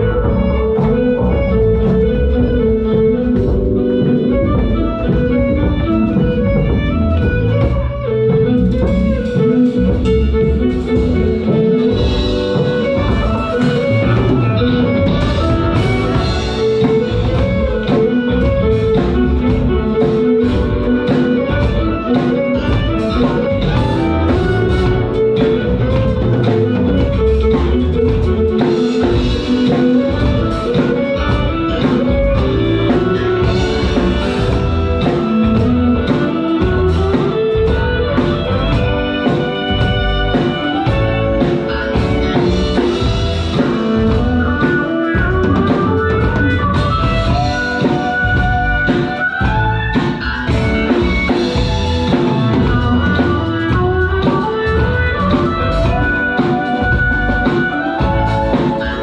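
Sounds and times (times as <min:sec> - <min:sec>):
backing track with drums and bass: 0:00.0 - 0:59.0
violins bowing a melody: 0:00.0 - 0:59.0.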